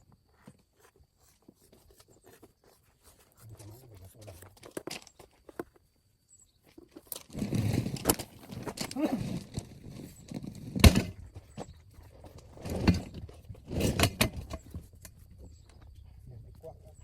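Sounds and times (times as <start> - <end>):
rustling and scraping: 0.0 - 16.2.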